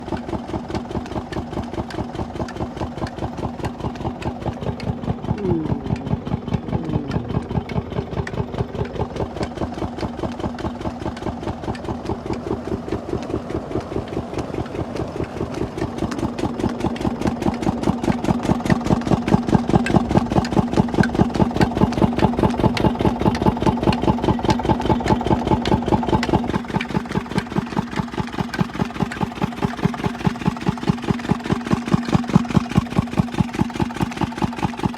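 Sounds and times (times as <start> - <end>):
water pump engine running: 0.0 - 34.9.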